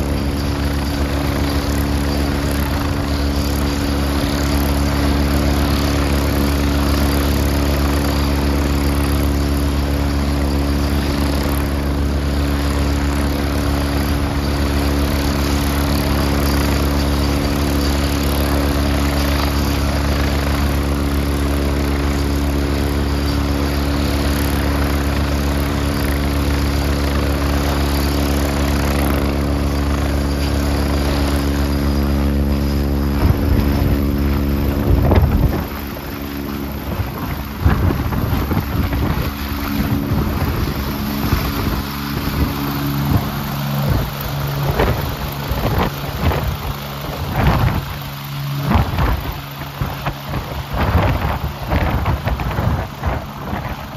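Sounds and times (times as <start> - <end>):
helicopter running on the ground: 0.0 - 53.9.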